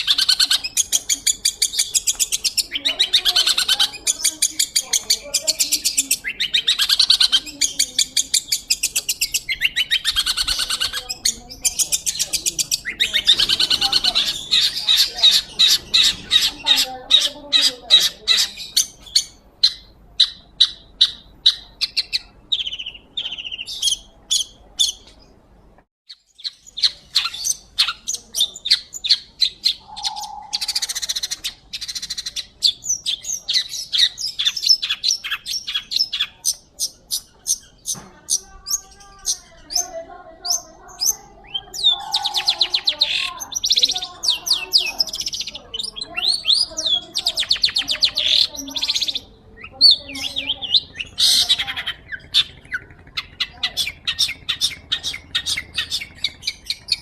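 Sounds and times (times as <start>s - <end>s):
bird harsh chattering song: 0.0s - 57.0s.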